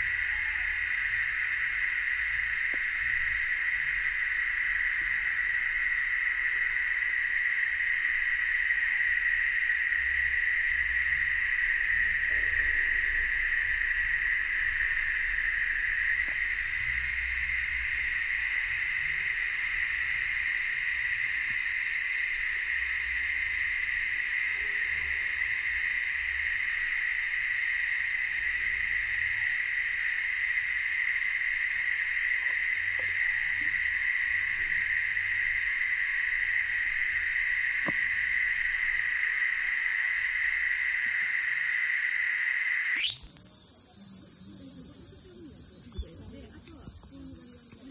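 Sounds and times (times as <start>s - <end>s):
cicada chorus drone: 0.0s - 47.9s.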